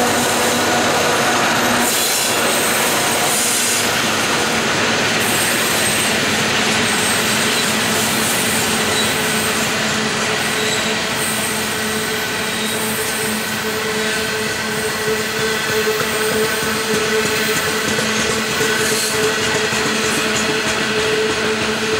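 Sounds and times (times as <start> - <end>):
steel wheels on rail: 0.0 - 21.9.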